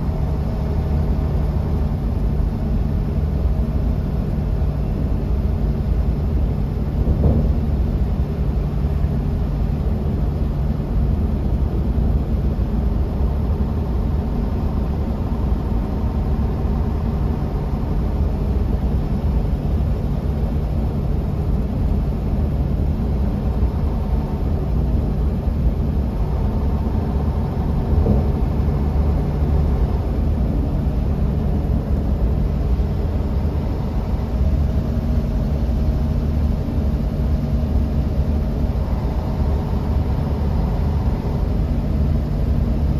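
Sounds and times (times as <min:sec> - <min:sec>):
bus engine rumble: 0:00.0 - 0:42.9
road and tyre noise: 0:00.0 - 0:42.9.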